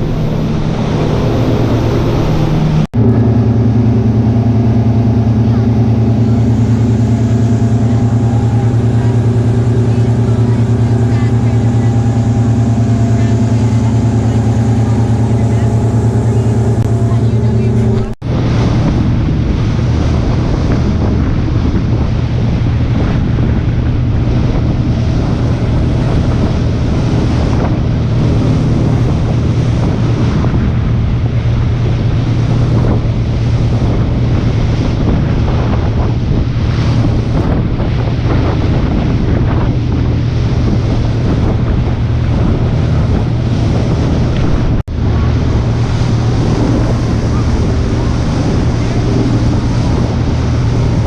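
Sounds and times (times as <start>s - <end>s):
wind buffeting the microphone: 0.0s - 51.0s.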